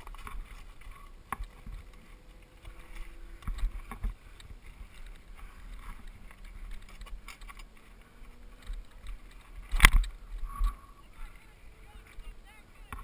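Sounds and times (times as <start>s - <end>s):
bike clicks and rattles: 0.0s - 12.3s
bike tyres rumbling over dirt: 0.0s - 12.3s.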